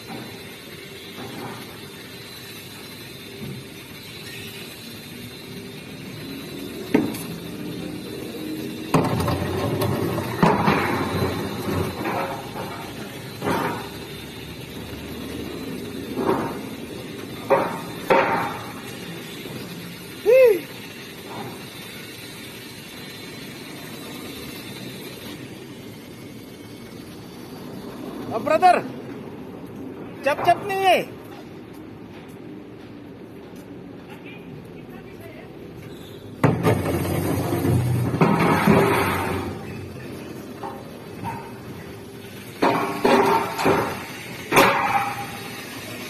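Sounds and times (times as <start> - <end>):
steel rumbling and scraping: 0.0 - 29.4, 35.9 - 46.0.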